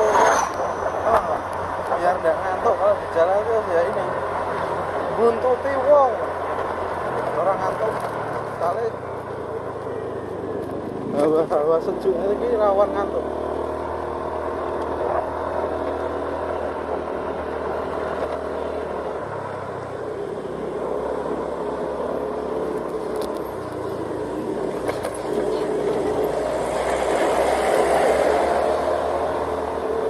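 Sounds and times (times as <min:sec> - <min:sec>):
road noise: 0:00.0 - 0:30.0
vehicle engine: 0:00.0 - 0:30.0.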